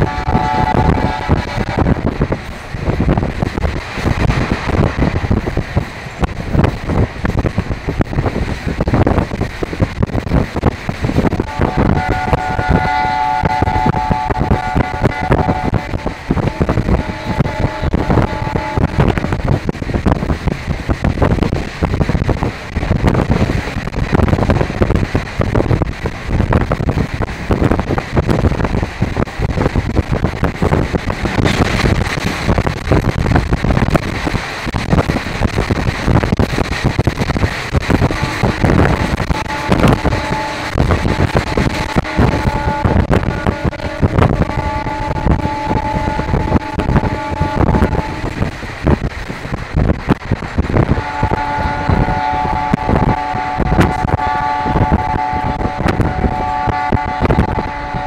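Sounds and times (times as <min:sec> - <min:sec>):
train rumble and clatter: 0:00.0 - 0:58.0
wind buffeting microphone: 0:00.0 - 0:58.0.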